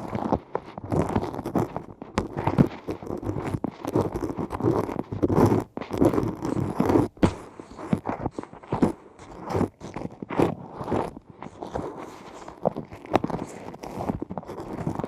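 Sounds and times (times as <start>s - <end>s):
ear pick scraping in ear: 0.0s - 15.0s.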